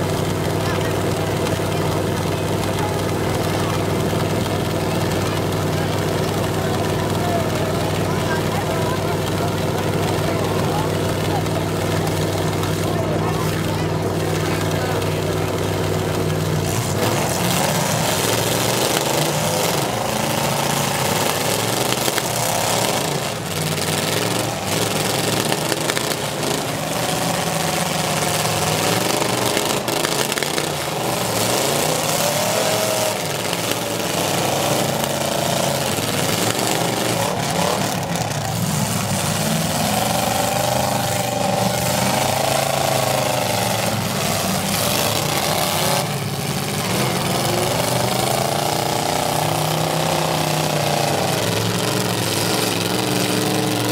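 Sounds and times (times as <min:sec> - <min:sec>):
car engines revving: 0:00.0 - 0:53.9.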